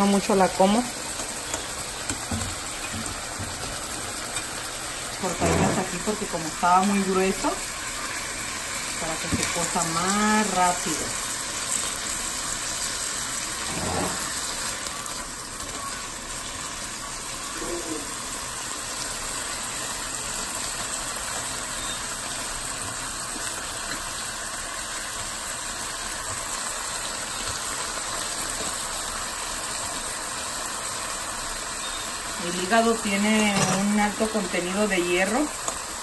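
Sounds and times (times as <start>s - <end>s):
liver sizzling in a pan: 0.0s - 36.0s.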